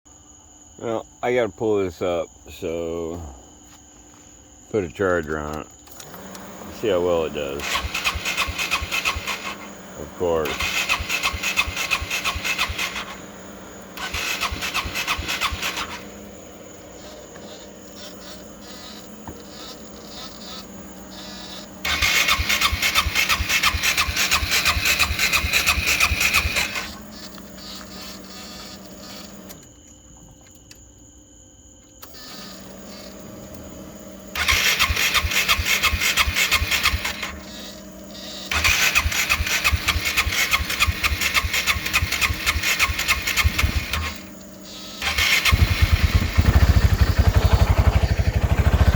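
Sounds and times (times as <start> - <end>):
scooter electric starter cranking: 5.8 - 29.7, 32.0 - 48.9.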